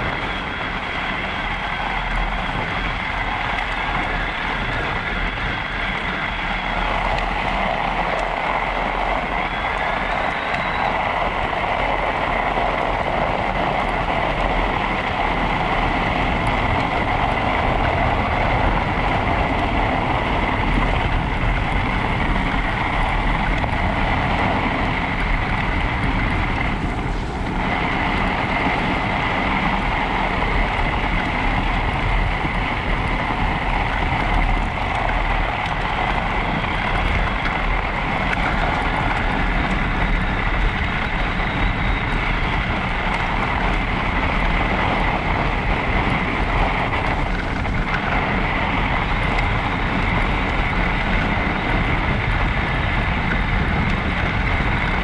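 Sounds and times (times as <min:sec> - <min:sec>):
tyres on snow: 0:00.0 - 0:55.0
wind buffeting microphone: 0:00.0 - 0:55.0.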